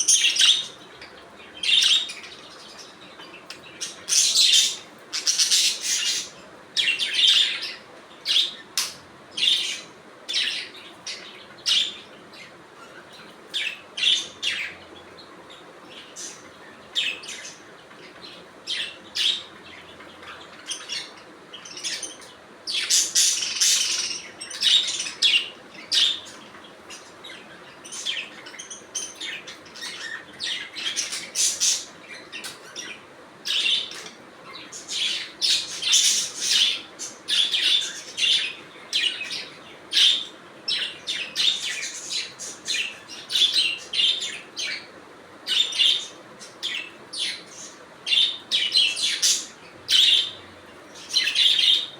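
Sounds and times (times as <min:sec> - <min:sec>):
budgerigars chirping: 0:00.0 - 0:44.9, 0:45.5 - 0:51.9.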